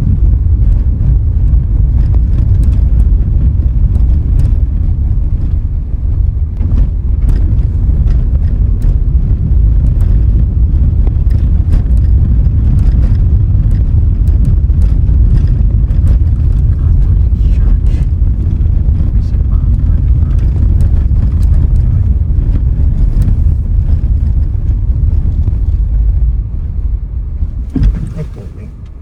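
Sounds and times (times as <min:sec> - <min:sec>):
road and wind noise: 0:00.0 - 0:29.0
vehicle driving rumble: 0:00.0 - 0:29.0.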